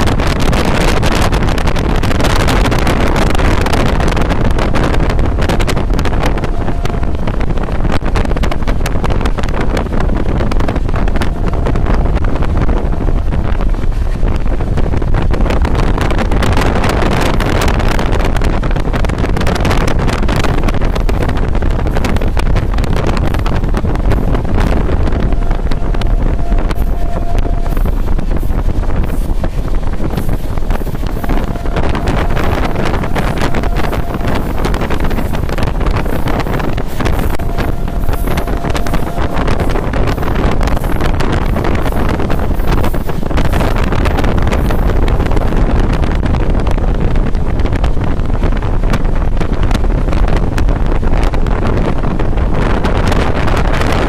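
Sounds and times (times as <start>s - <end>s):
train wheels rumbling: 0.0s - 54.0s
wind buffeting microphone: 0.0s - 54.0s.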